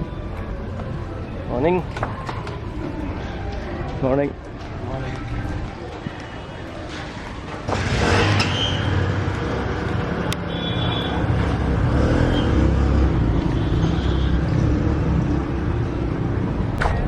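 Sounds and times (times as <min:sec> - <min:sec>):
road noise: 0:00.0 - 0:17.0
vehicle engines running: 0:02.4 - 0:17.0.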